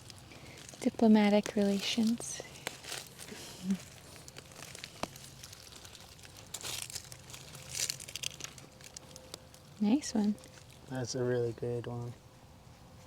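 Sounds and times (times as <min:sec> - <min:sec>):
rustling and crunching of soil: 0:00.0 - 0:13.0.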